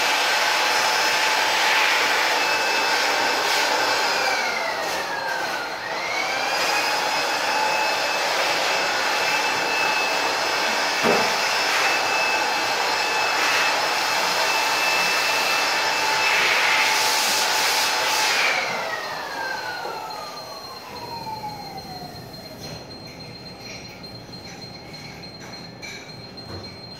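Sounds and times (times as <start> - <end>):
electric motor whining: 0.4 - 22.6.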